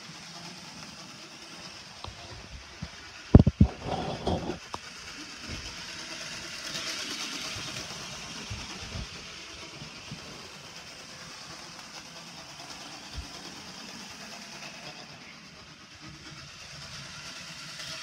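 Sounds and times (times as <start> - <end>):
model train whirring rattle: 0.0 - 18.0.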